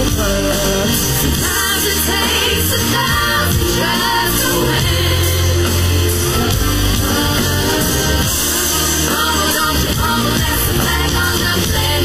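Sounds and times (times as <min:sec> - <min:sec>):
heavy bass line: 0:00.0 - 0:12.0
person singing lead vocal: 0:00.0 - 0:12.0.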